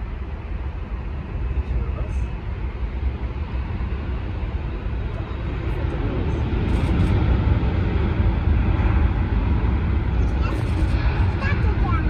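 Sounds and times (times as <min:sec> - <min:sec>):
jet engines at takeoff thrust: 0:00.0 - 0:12.0.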